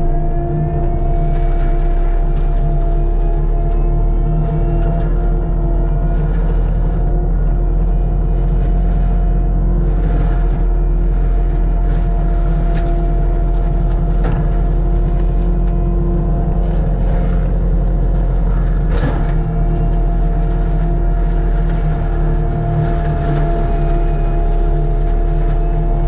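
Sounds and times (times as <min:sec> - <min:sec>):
diesel engine running steadily: 0:00.0 - 0:26.0.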